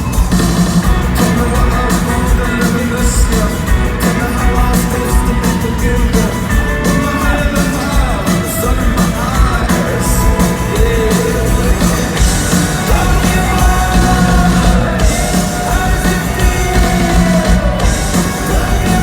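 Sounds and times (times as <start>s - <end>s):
live rock band: 0.0s - 19.0s
person singing: 0.0s - 19.0s.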